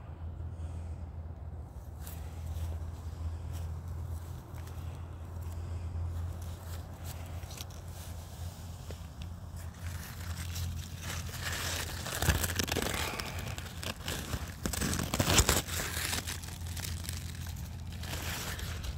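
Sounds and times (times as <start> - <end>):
steady low hum: 0.0 - 18.9
leaves rustling and crinkling: 1.8 - 18.9.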